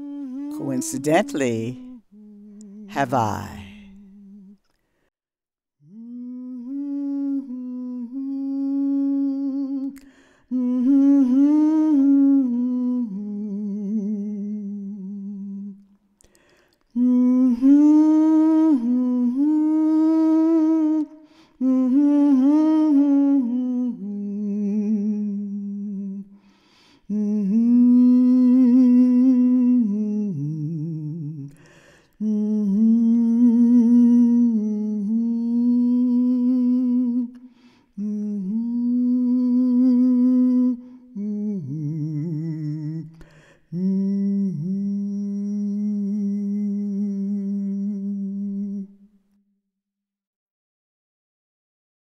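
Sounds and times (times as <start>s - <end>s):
person humming a slow tune: 0.0s - 4.6s, 5.8s - 49.0s.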